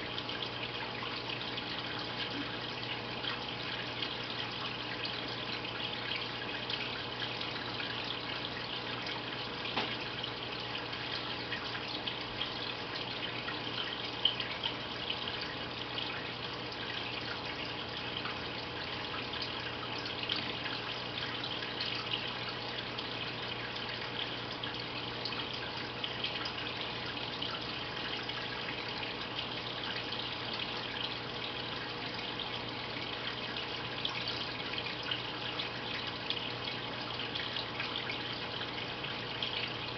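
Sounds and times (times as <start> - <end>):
aquarium filter water trickling: 0.0 - 39.9
low steady hum: 0.0 - 39.9.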